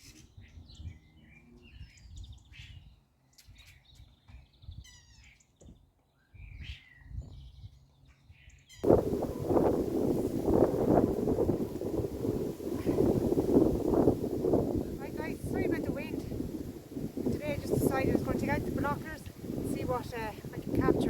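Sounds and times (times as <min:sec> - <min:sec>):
wind noise on microphone: 0:00.0 - 0:05.8, 0:06.4 - 0:07.9, 0:08.8 - 0:21.0
small birds chirping: 0:00.0 - 0:21.0.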